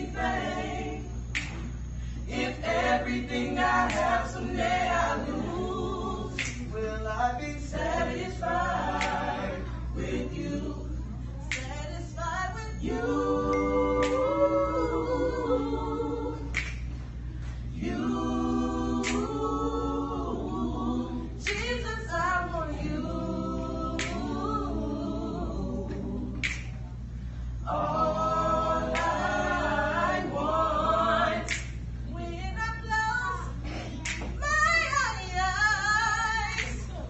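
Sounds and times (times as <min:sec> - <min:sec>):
steady low hum: 0:00.0 - 0:37.0
vocal group singing a cappella: 0:00.0 - 0:37.0.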